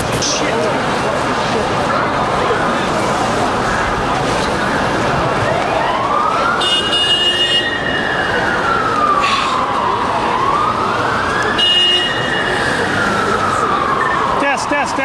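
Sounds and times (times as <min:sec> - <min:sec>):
street noise: 0:00.0 - 0:15.0
emergency siren wailing: 0:00.2 - 0:15.0.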